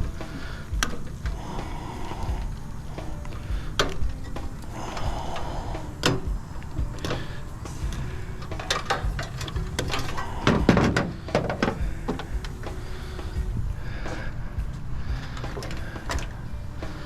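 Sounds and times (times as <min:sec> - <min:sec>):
metal parts clanking and rattling: 0:00.0 - 0:13.5, 0:15.2 - 0:17.0.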